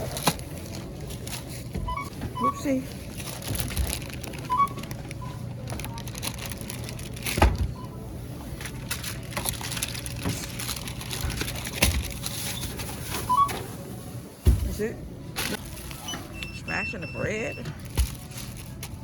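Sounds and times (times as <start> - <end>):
groceries rustling and clattering: 0.0 - 19.0.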